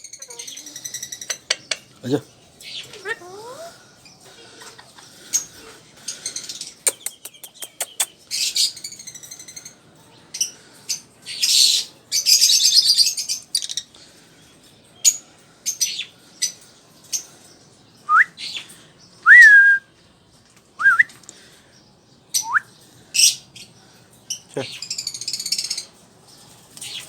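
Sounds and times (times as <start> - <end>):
cage birds chirping: 0.0 - 27.0.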